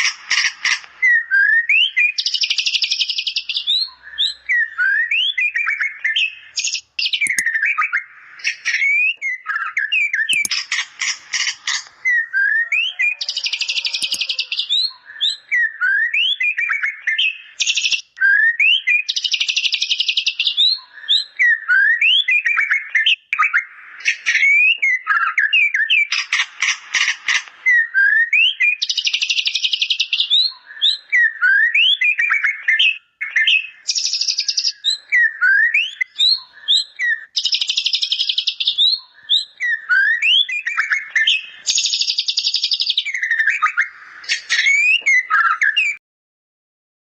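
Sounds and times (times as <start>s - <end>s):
bird singing whistles and trills: 1.0s - 10.5s, 12.0s - 26.1s, 27.6s - 46.0s.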